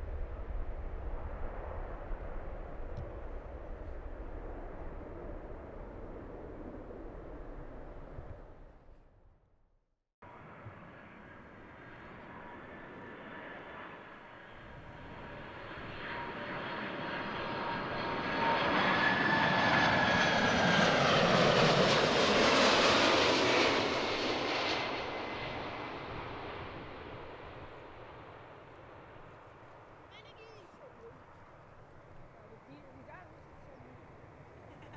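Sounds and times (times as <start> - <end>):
jet airliner passing by: 0.0 - 8.7, 10.2 - 34.9.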